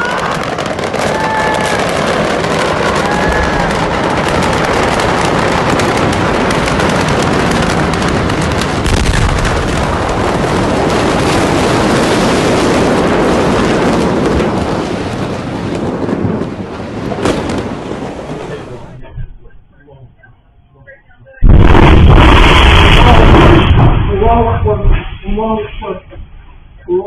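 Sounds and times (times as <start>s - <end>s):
fire crackling and popping: 0.0s - 19.0s, 21.4s - 24.3s
deep rumble: 0.0s - 27.0s.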